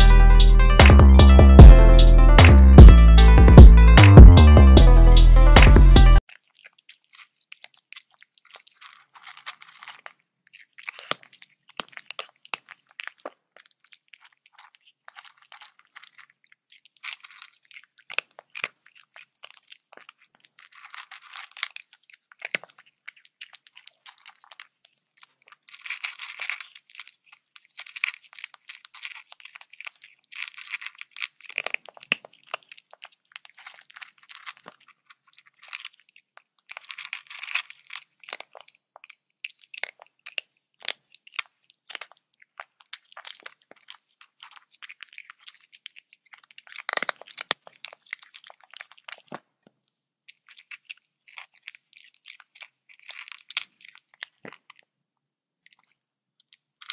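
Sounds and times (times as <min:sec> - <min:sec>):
animal crunching bones: 0:06.2 - 0:55.0, 0:55.6 - 0:56.9.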